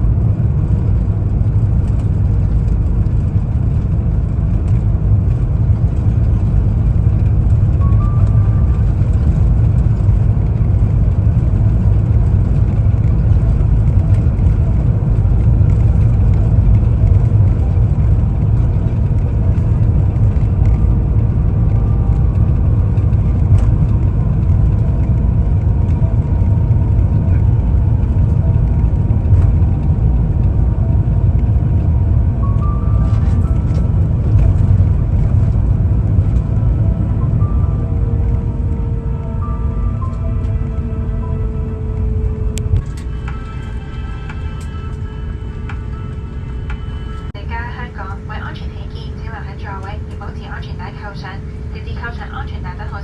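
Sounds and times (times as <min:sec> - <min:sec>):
airliner cabin low rumble: 0:00.0 - 0:53.0.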